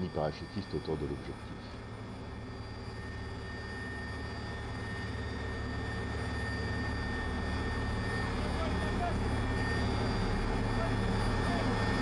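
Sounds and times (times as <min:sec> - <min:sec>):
helicopter engine and rotor drone: 0:00.0 - 0:12.0
high turbine whine: 0:00.0 - 0:12.0.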